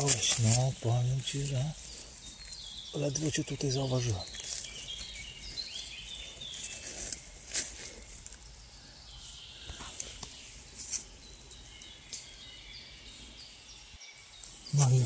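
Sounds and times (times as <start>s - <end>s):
dry leaves and twigs crackling: 0.0s - 15.0s
faint bird chirps: 0.2s - 15.0s.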